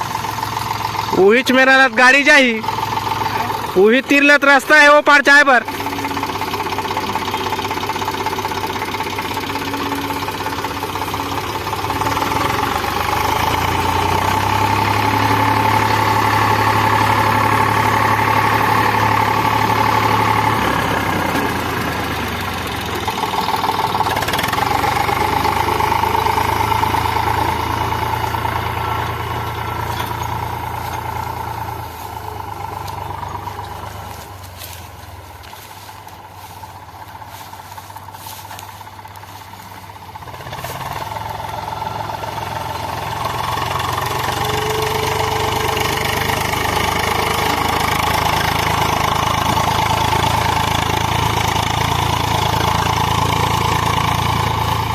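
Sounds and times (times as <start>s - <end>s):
tractor diesel engine straining: 0.0s - 54.9s.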